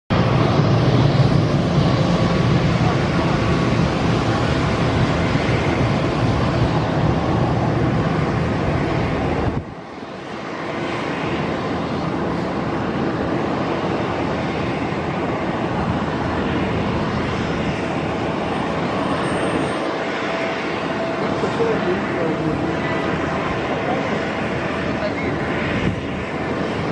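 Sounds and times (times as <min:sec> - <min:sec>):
jet engine noise: 0:00.1 - 0:26.9.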